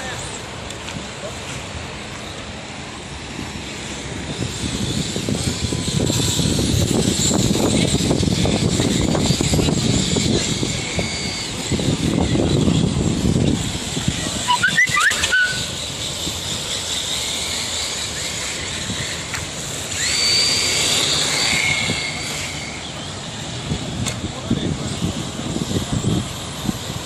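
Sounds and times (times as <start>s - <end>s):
rc car motors whining: 0.0s - 27.0s.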